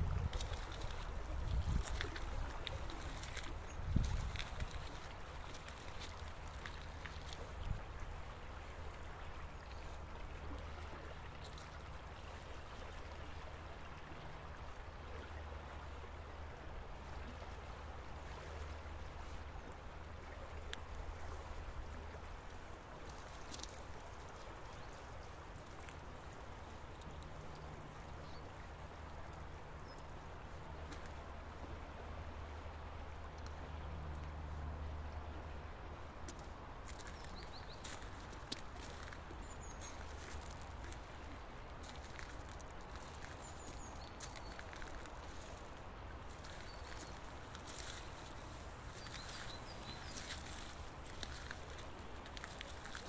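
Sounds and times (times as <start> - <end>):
river flowing over gravel: 0.0 - 53.0.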